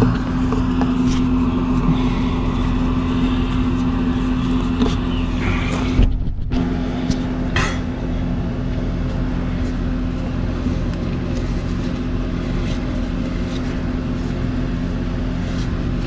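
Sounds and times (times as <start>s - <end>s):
engine idling hum: 0.0s - 16.0s.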